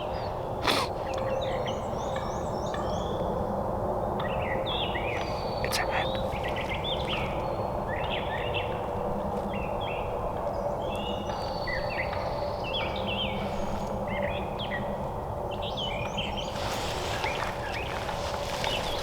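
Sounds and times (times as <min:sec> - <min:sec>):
low outdoor background hum: 0:00.0 - 0:19.0
songbirds chirping and singing: 0:00.0 - 0:19.0.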